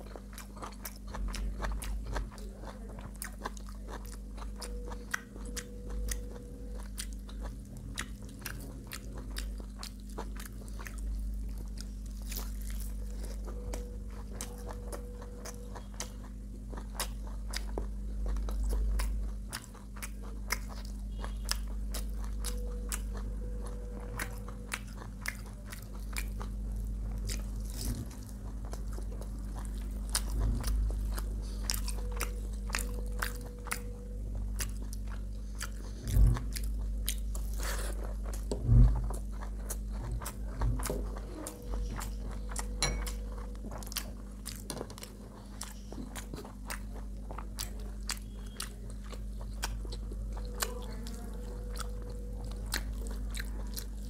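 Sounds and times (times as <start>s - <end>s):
person chewing and eating: 0.0s - 54.0s
steady low hum: 0.0s - 54.0s.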